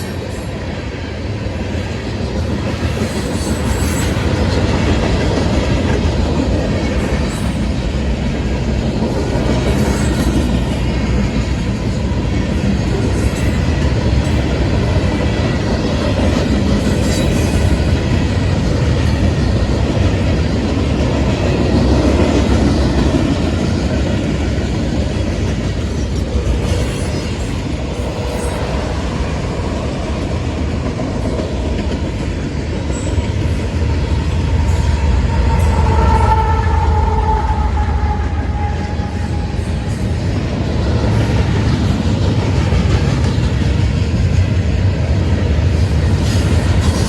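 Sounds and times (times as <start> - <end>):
diesel locomotive passing: 0.0 - 47.0
freight train rumbling and clacking: 0.0 - 47.0.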